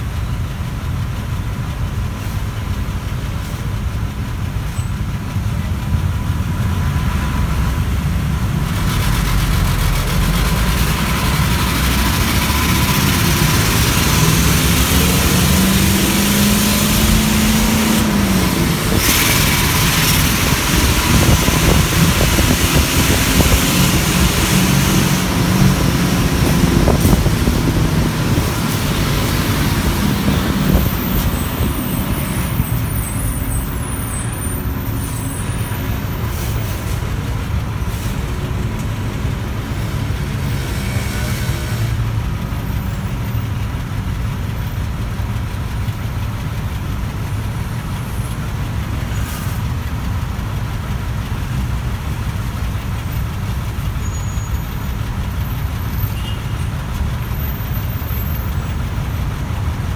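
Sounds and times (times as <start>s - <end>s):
bus engine: 0.0s - 59.9s
road noise: 0.0s - 59.9s.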